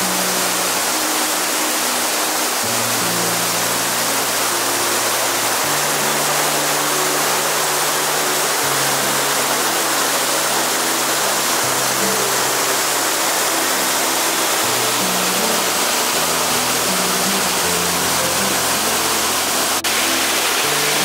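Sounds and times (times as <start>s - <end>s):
slow music of low chords: 0.0s - 21.0s
waterfall rushing: 0.0s - 21.0s.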